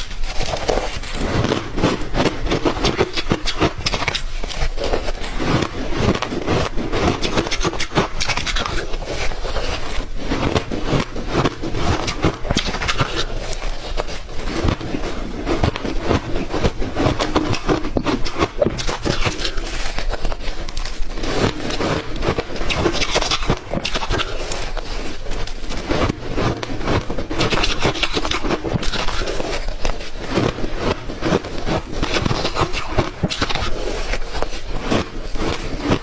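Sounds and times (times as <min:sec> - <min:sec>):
ice crunching between teeth: 0:00.0 - 0:36.0.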